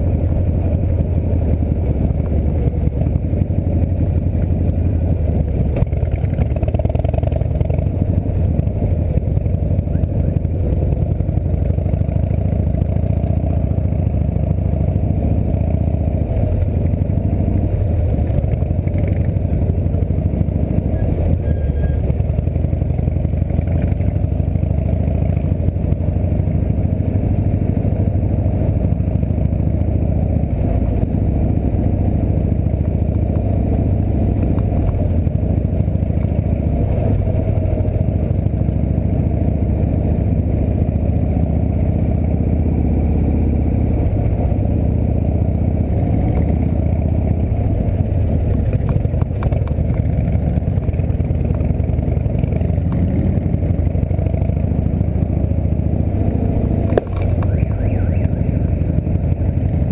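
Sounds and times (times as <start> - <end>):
motorcycle engine at low speed: 0.0 - 59.9.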